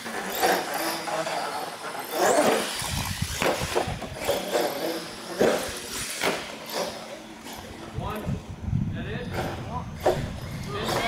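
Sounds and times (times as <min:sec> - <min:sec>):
toy monster truck driving: 0:00.0 - 0:08.5, 0:09.2 - 0:11.0.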